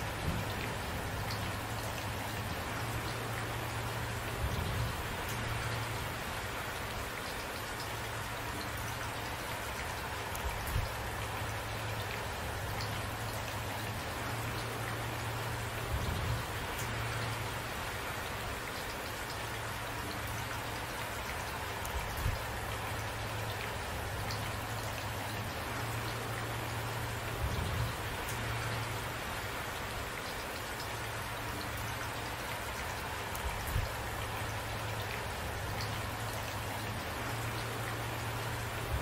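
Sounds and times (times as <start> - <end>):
raindrops ticking: 0.0 - 39.0
steady rain falling: 0.0 - 39.0.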